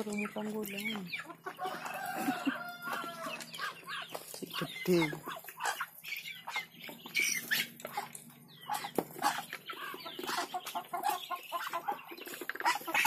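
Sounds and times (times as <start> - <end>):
ducks and chickens calling: 0.0 - 13.0.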